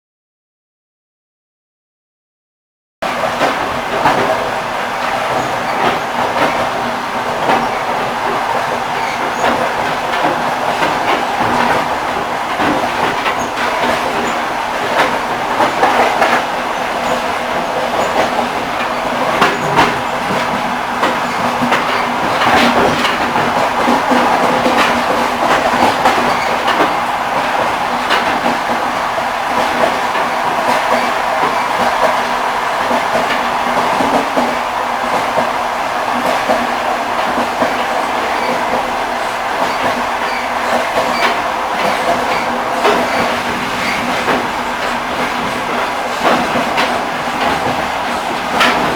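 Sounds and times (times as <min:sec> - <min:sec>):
train wheels clattering on track: 0:03.0 - 0:48.9.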